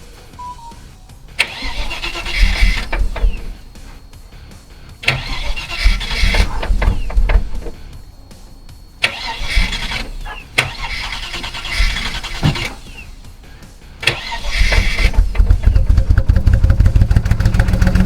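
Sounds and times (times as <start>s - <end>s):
car engine cranking and starting: 0.0s - 18.0s.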